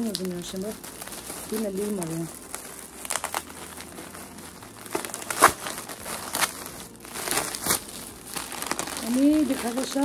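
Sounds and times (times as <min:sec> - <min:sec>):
gift wrapping crinkling: 0:00.0 - 0:10.0.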